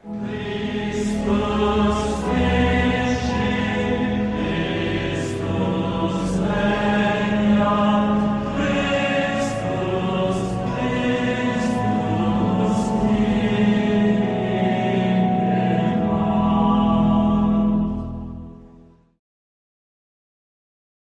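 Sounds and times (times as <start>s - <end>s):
group singing a hymn: 0.0s - 18.2s.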